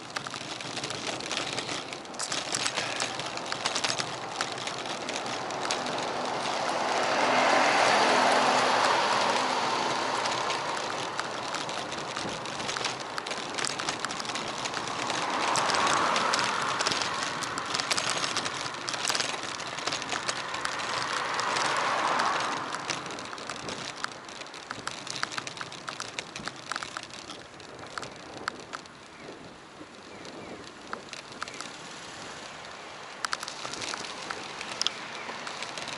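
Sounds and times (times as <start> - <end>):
bicycle clicks: 0.0 - 35.9
passing traffic: 0.0 - 35.9
wind and tyre rush: 0.0 - 35.9.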